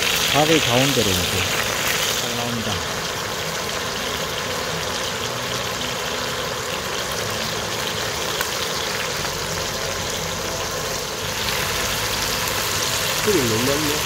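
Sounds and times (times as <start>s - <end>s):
food sizzling in oil on griddle: 0.0s - 14.0s.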